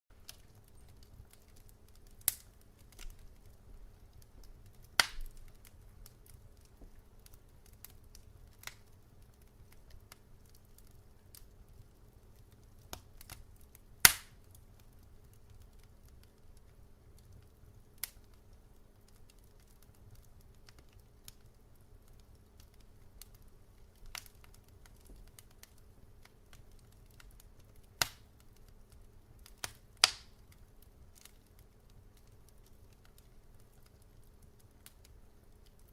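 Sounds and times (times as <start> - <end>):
logs crackling in fireplace: 0.1 - 35.9.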